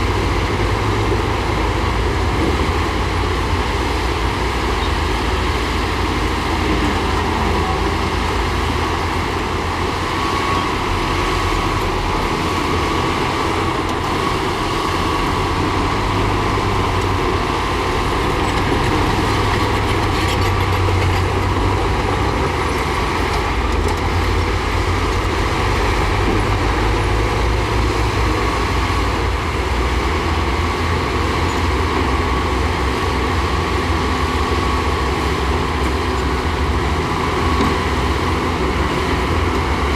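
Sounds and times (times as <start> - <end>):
heavy diesel machinery rumbling: 0.0 - 39.9.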